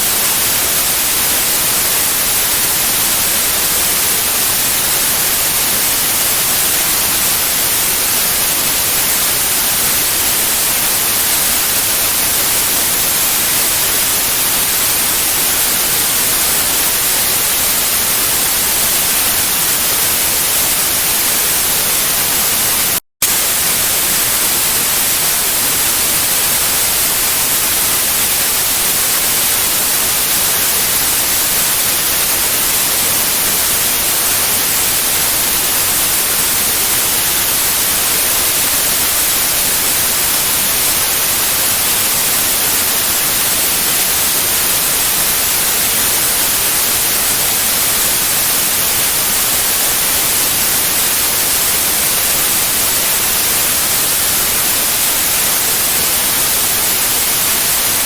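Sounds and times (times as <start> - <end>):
hissy white noise: 0.0 - 58.0.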